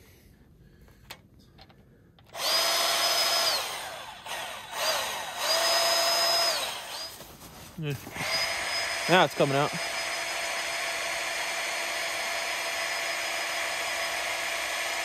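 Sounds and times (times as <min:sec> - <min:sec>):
grease gun motor whining: 0:02.3 - 0:07.4, 0:08.0 - 0:15.0.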